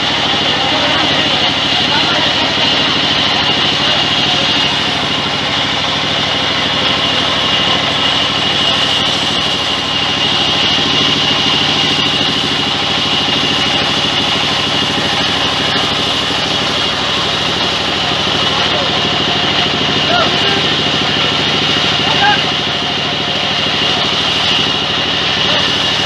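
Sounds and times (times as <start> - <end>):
band saw drone and whine: 0.0 - 26.0.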